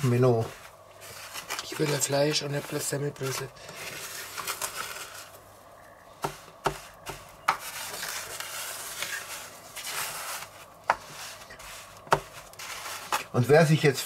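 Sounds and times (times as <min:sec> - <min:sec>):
hands rubbing breadcrumbs: 0:00.0 - 0:14.0.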